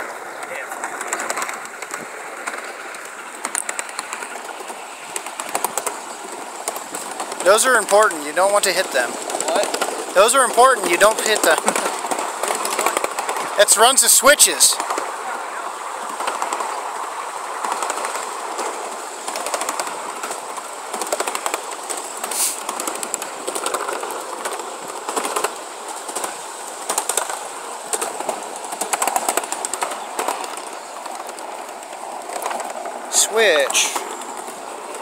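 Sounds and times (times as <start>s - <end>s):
miniature train wheels on track: 0.0s - 35.0s.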